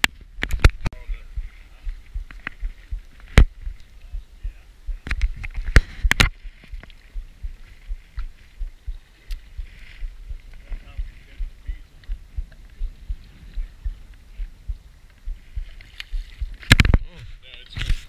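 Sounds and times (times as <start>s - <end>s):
low thumping: 0.0s - 17.1s
waves knocking against boat hull: 0.0s - 17.9s.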